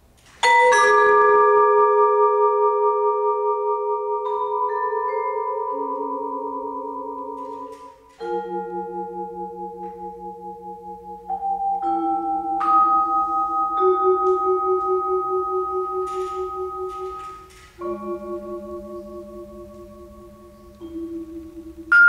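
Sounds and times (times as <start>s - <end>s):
vibraphone notes and chords: 0.4s - 22.0s.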